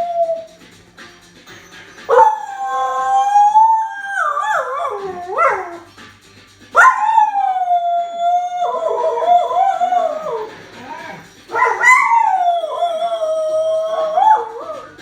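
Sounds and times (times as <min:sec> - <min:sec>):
dog howling: 0:00.0 - 0:00.6, 0:02.1 - 0:05.9, 0:06.8 - 0:15.0.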